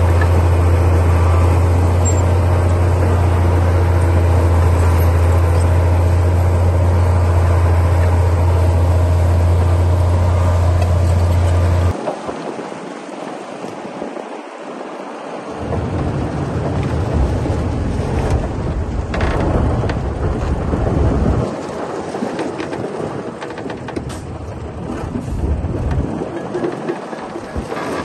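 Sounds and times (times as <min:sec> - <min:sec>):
bulldozer diesel rumble: 0:00.0 - 0:12.0, 0:15.5 - 0:28.0.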